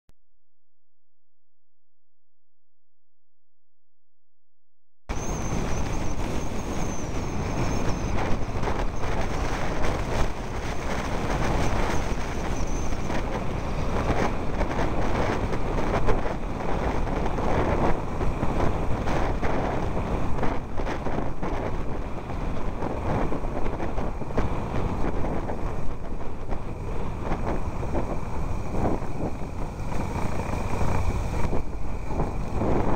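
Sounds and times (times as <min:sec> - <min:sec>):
vehicle rumbling on rough road: 0:05.1 - 0:32.9.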